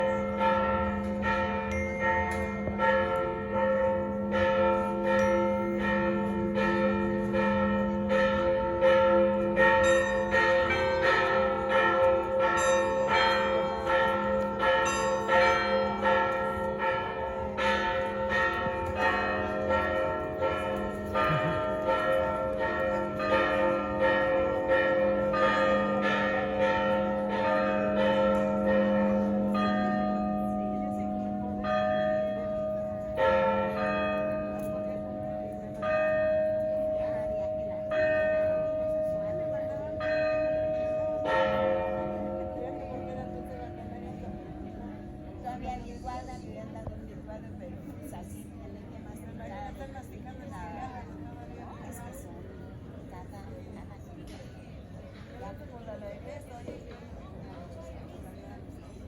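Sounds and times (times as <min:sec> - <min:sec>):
church bells pealing: 0:00.0 - 0:54.3.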